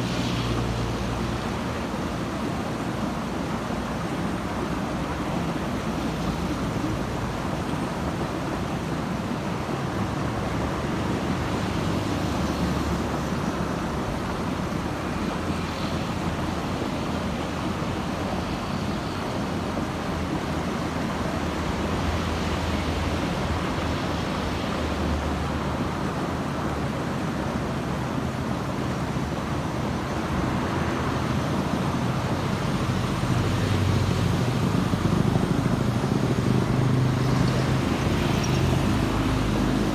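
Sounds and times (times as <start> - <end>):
passing vehicles rumbling: 0.0 - 3.0, 9.7 - 39.9.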